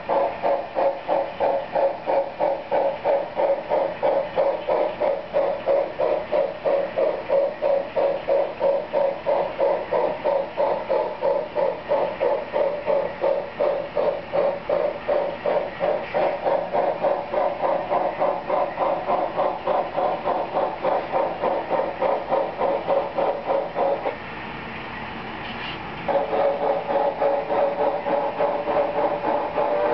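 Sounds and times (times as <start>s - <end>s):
steam hiss: 0.0s - 24.1s
model steam locomotive chuffing: 0.0s - 29.9s.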